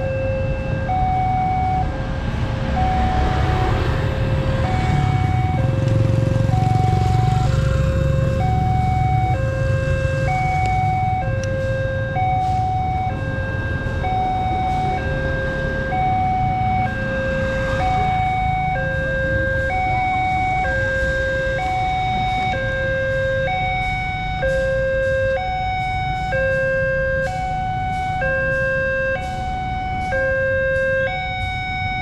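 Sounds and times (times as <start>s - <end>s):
level crossing two-tone alarm: 0.0s - 2.0s, 2.6s - 32.0s.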